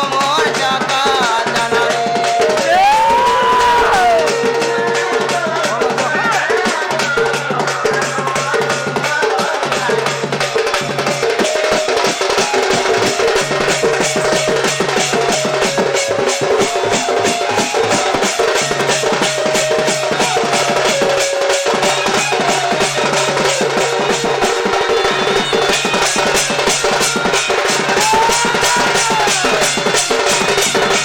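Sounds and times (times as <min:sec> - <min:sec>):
rapid drum strokes: 0:00.0 - 0:31.0
held melody line: 0:00.4 - 0:06.1, 0:11.0 - 0:31.0.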